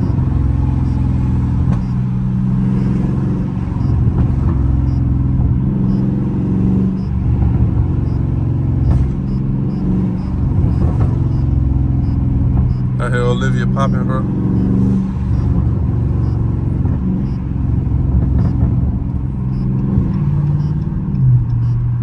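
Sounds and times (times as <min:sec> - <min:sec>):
car engine drone: 0:00.0 - 0:22.0
road rumble: 0:00.0 - 0:22.0.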